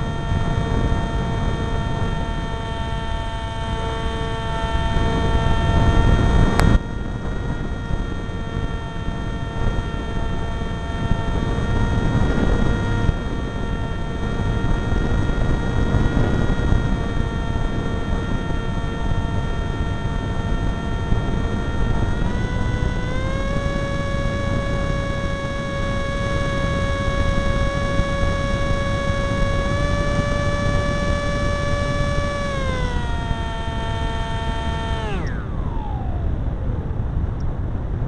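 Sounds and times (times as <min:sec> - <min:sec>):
electric motor and propeller whining: 0:00.0 - 0:38.0
wind rush on microphone: 0:00.0 - 0:38.0.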